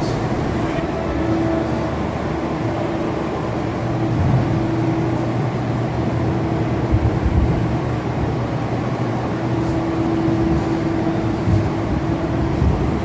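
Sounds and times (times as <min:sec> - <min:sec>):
stationary train machinery rumbling: 0:00.0 - 0:13.0
steady mid-pitched tone: 0:00.0 - 0:13.0.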